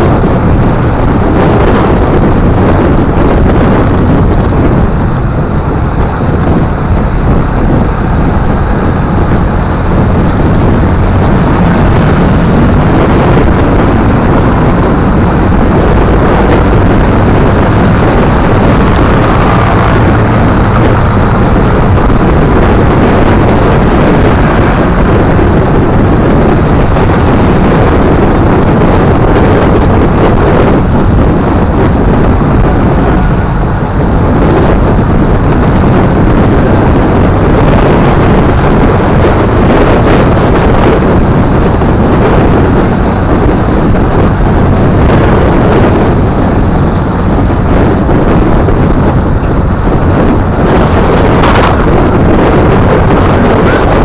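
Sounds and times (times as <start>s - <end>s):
road and traffic noise: 0.0s - 54.0s
wind rumble on microphone: 0.0s - 54.0s.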